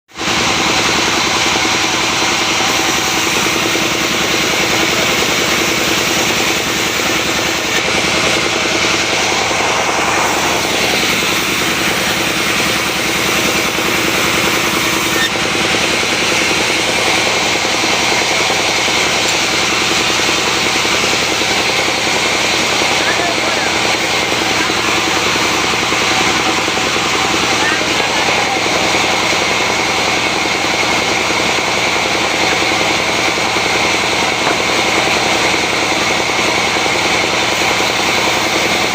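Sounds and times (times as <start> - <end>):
woodworking power tool whirring: 0.2 - 38.9.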